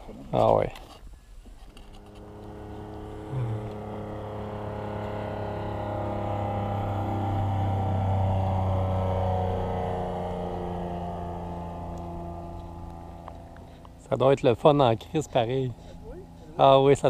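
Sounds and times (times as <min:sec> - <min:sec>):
propeller plane engine droning: 0:00.3 - 0:17.0.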